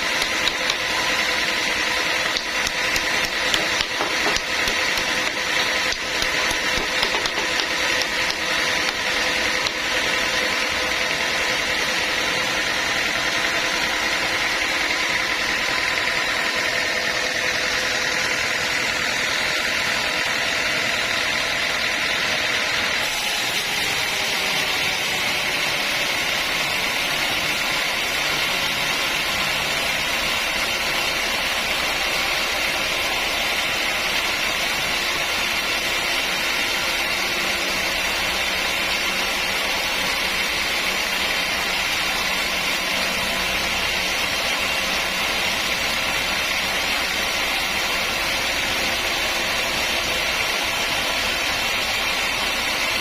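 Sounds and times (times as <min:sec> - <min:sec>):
sawmill machinery with high whine: 0:00.0 - 0:53.0.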